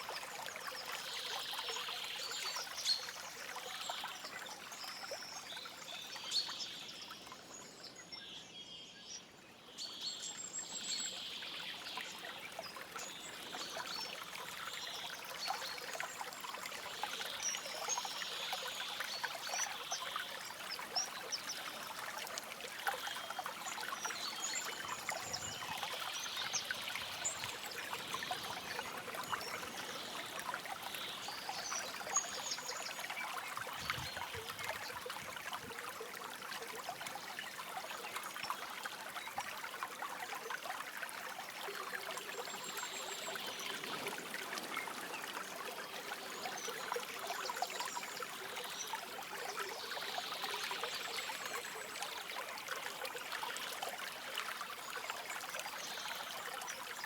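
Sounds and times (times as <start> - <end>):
stream babbling over stones: 0.0 - 6.8, 10.7 - 57.0.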